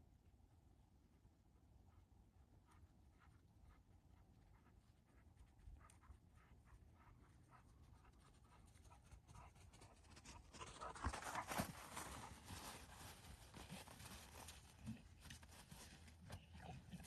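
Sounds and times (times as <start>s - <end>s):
rustling on woodland floor: 2.5s - 17.0s.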